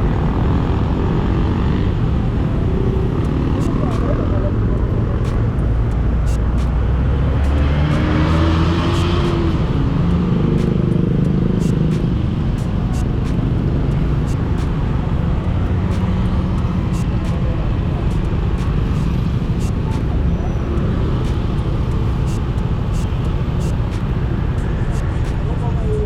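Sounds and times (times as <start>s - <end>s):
heavy low rumble: 0.0s - 26.0s
motorcycle engine running: 0.0s - 26.0s.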